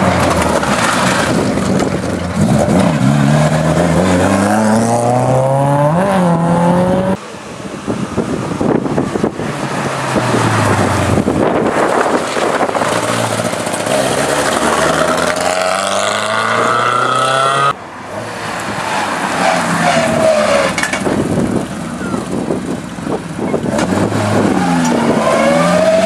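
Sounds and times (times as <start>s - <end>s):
rally car engines accelerating: 0.0s - 7.2s, 8.4s - 18.8s, 19.4s - 26.0s.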